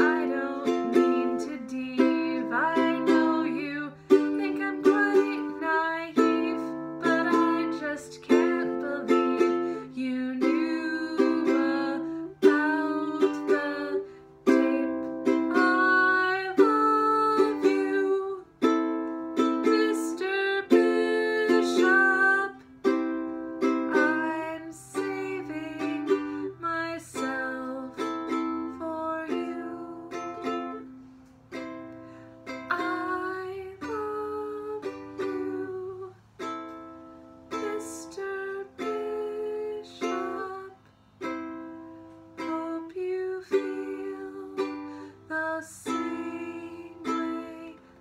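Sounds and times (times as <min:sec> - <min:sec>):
woman singing: 0:00.0 - 0:23.0, 0:23.6 - 0:30.9, 0:32.5 - 0:36.3, 0:37.5 - 0:40.9, 0:42.3 - 0:48.0
ukulele strumming: 0:00.0 - 0:48.0.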